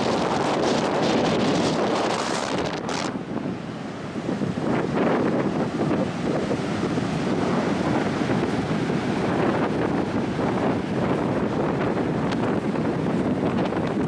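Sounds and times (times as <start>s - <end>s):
ocean surf: 0.0s - 14.0s
strong wind on microphone: 0.0s - 14.0s.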